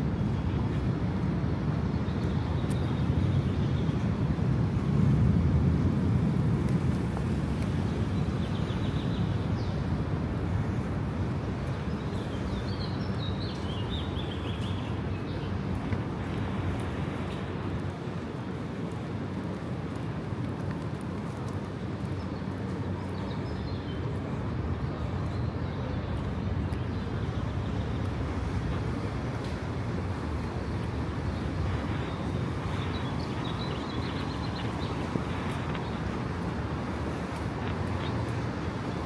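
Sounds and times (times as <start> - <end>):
low hum of city traffic: 0.0 - 39.0.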